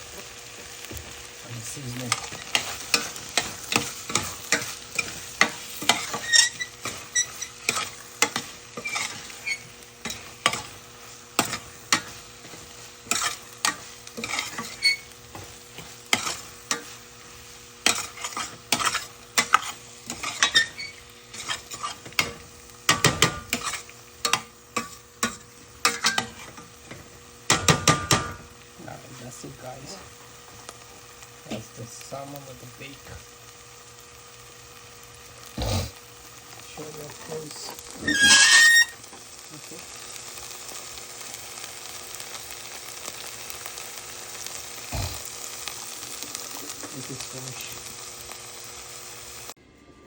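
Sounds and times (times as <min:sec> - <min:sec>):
frying oil sizzling: 0:00.0 - 0:50.0.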